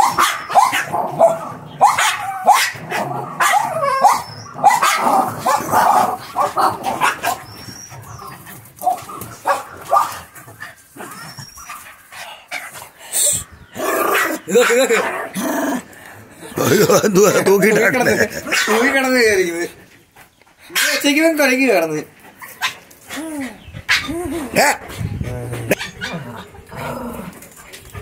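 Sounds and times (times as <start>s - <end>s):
small dogs barking and yipping: 0.0s - 13.0s, 13.7s - 16.6s, 17.4s - 19.4s, 20.7s - 21.2s, 22.2s - 28.0s.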